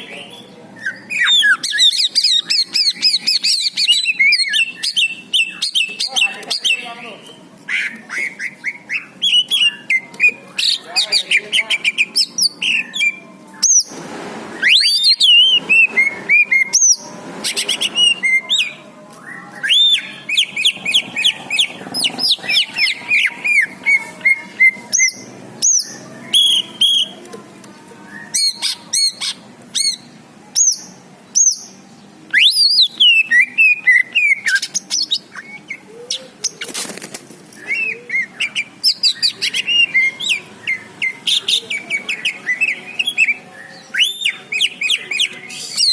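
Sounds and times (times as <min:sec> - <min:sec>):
songbird singing: 0:00.0 - 0:14.0, 0:14.6 - 0:36.6, 0:37.5 - 0:45.9.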